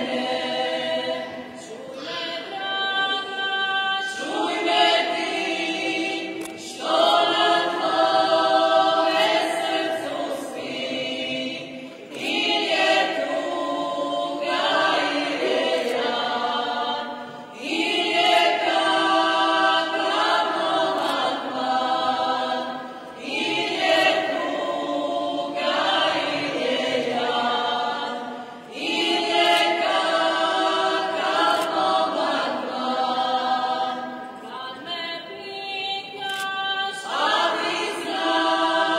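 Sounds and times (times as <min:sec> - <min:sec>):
group singing a cappella: 0:00.0 - 0:38.9.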